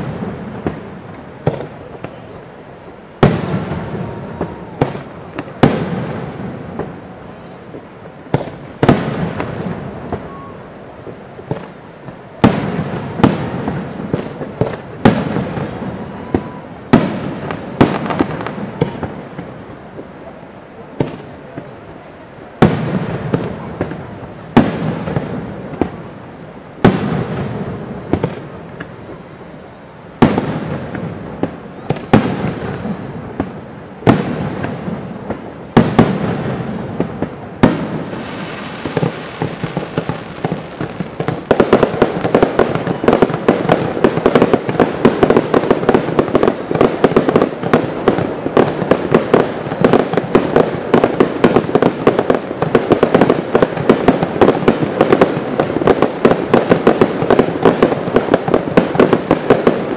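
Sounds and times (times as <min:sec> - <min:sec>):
firework shells booming: 0:00.0 - 0:02.4, 0:03.2 - 0:07.0, 0:07.7 - 0:20.1, 0:21.0 - 0:21.8, 0:22.6 - 0:26.1, 0:26.8 - 0:29.0, 0:30.2 - 0:59.9.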